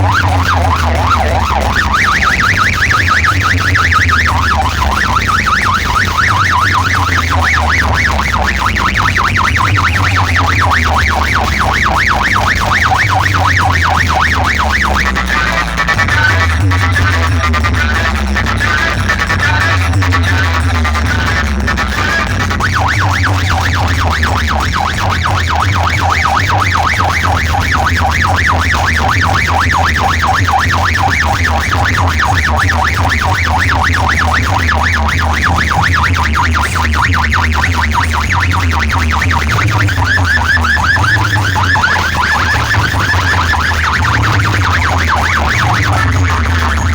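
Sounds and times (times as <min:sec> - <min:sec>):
heavy bass: 0:00.0 - 0:46.9
warbling siren effect: 0:00.0 - 0:46.9.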